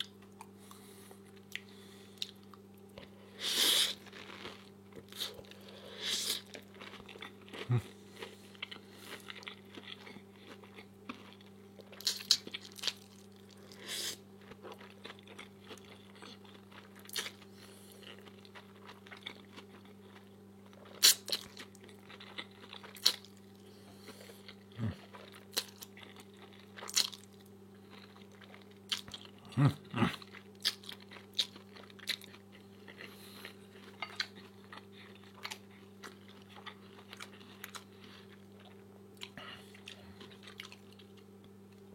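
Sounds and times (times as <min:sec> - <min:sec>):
crunching and chewing of fried food: 0:00.0 - 0:41.9
steady low hum: 0:00.0 - 0:41.9.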